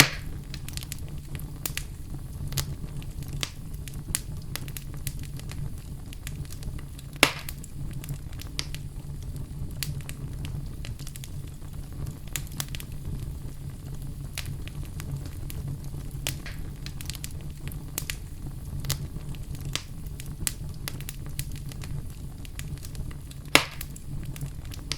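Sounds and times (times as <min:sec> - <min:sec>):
fire popping: 0:00.0 - 0:24.9
wood fire crackling: 0:00.0 - 0:24.9.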